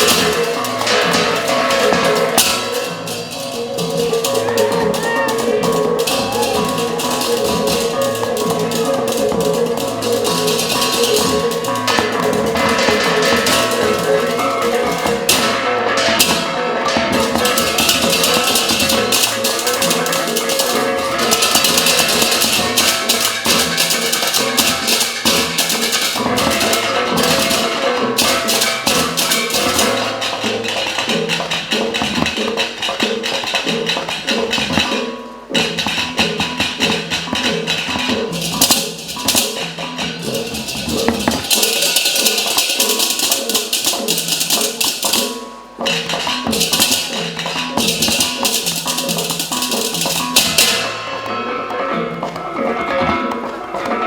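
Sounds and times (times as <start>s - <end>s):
percussion ensemble music: 0.0s - 54.0s
shimmering high percussion: 0.0s - 54.0s.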